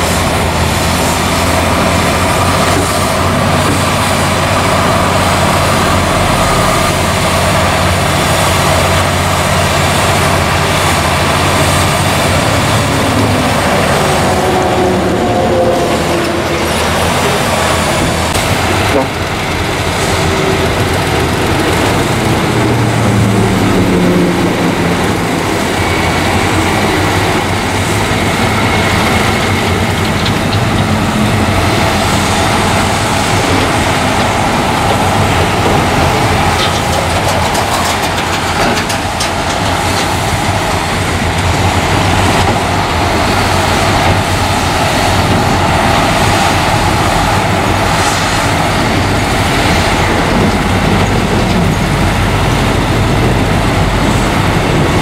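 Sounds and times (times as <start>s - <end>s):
bulldozer diesel engine: 0.0s - 55.0s
dump truck engines running: 0.0s - 55.0s.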